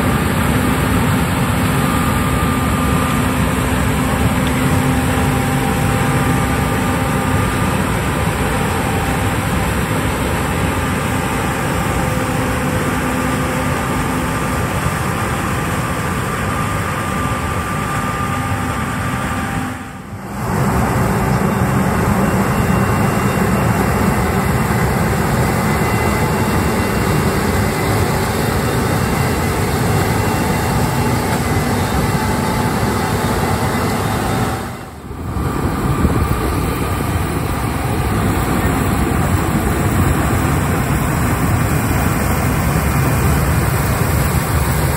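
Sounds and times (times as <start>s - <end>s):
diesel harvesting machinery running: 0.0s - 44.9s
steady whining tones: 0.0s - 44.9s.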